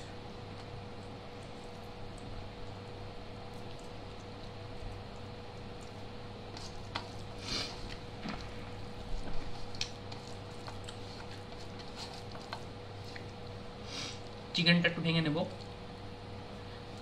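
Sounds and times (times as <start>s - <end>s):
steady low hum: 0.0s - 17.0s
hand mashing rice: 0.5s - 14.4s.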